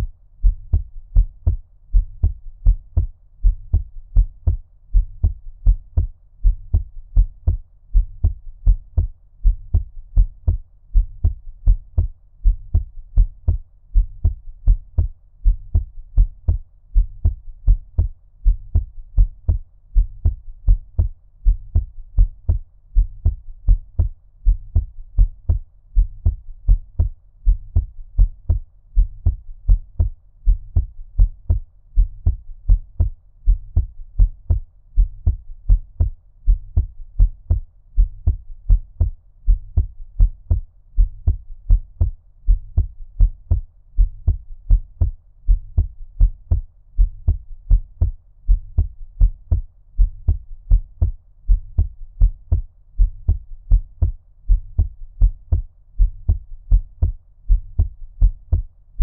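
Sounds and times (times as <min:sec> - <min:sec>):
muffled heartbeat thuds: 0:00.0 - 0:58.7.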